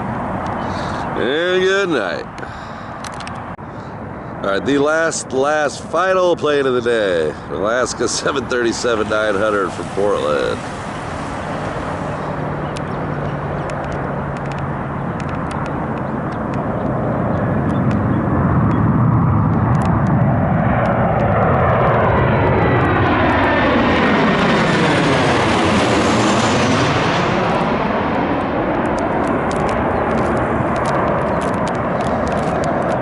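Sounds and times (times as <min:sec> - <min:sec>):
jet airliner flying past: 0:00.0 - 0:33.0.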